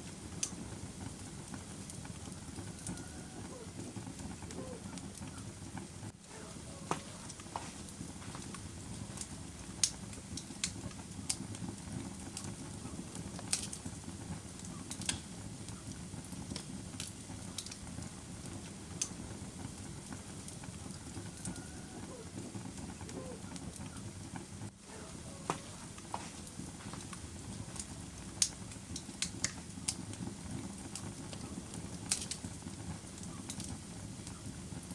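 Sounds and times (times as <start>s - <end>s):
low rumble of burning logs: 0.0s - 34.9s
wood fire crackling: 0.0s - 34.9s.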